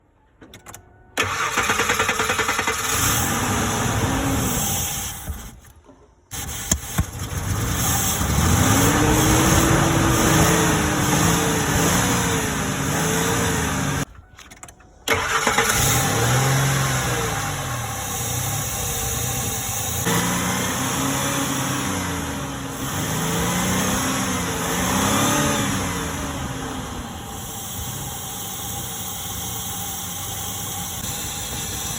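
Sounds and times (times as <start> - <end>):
engine speed swinging up and down: 1.2 - 14.1, 15.1 - 31.9.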